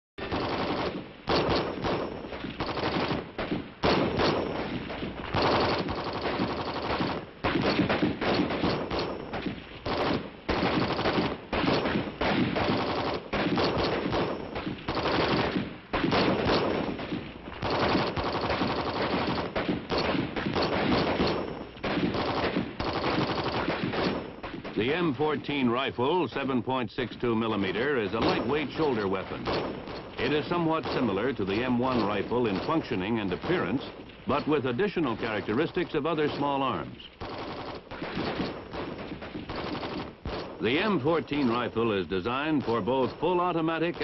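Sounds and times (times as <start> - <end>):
rifle gunfire bursts: 0.2 - 25.1, 27.4 - 44.0.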